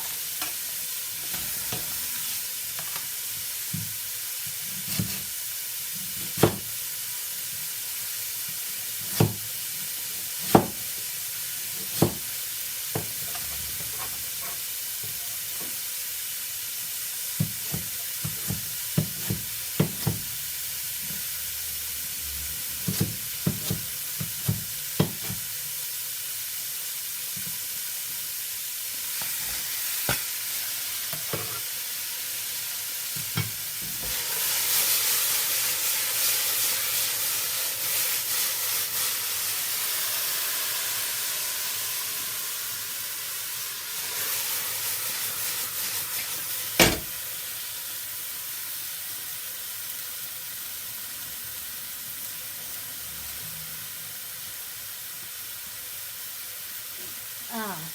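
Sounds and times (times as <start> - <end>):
frying hiss: 0.0 - 57.9.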